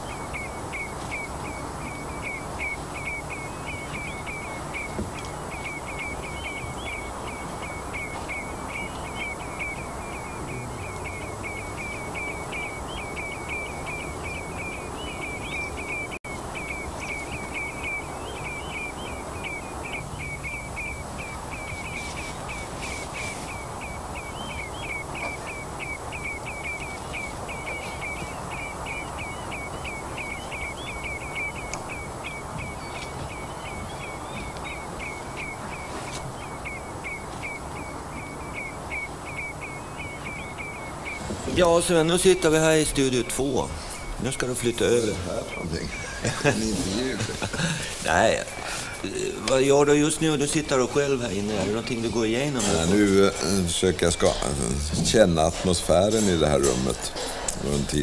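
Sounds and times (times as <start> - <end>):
animal chirping: 0.0 - 58.0
steady outdoor hiss: 0.0 - 58.0.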